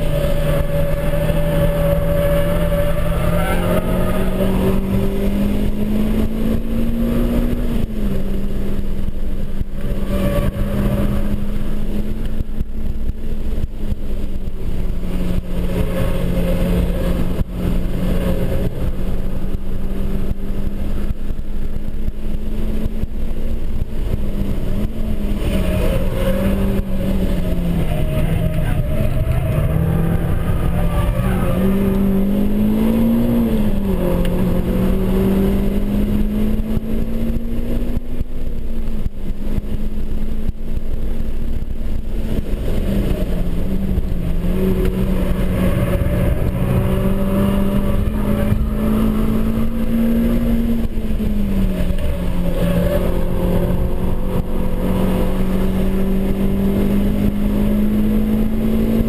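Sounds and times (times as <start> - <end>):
car engine at high revs: 0.0 - 59.0
road and wind noise: 0.0 - 59.0.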